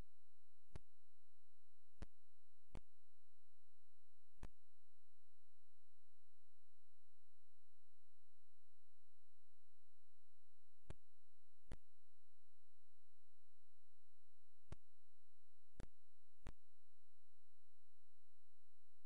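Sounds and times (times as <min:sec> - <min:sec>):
electronic tone whine and hum: 0:00.0 - 0:19.0.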